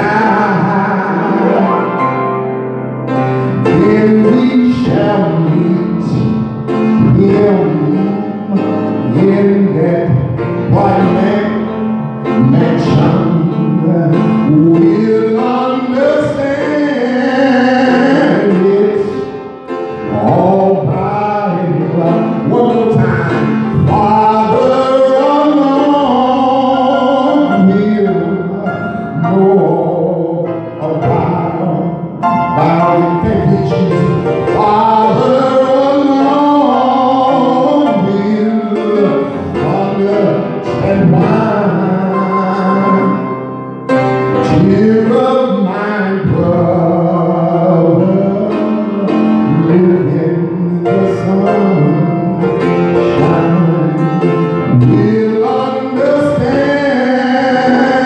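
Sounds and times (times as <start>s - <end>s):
man singing gospel into microphone: 0.0s - 58.0s.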